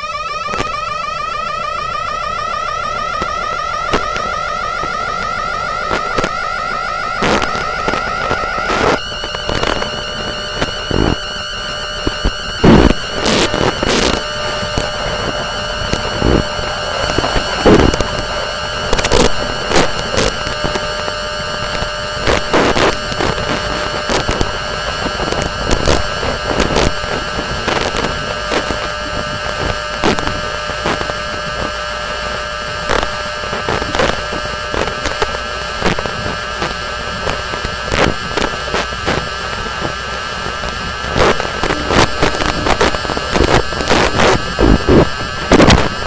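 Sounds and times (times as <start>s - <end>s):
high inverter switching tones: 0.0s - 46.0s
sharp crackling clicks: 0.0s - 46.0s.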